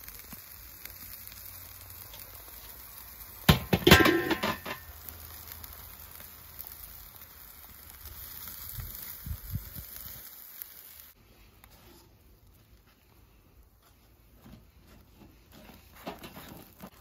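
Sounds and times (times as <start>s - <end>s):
meat sizzling on a grill: 0.0s - 12.8s, 15.6s - 17.0s.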